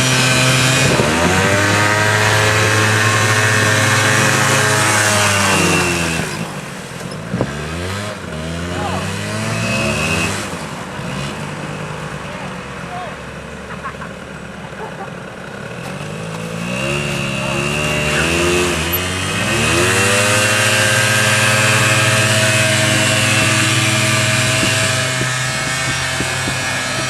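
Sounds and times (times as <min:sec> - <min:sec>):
quad bike engine revving: 0:00.0 - 0:27.0.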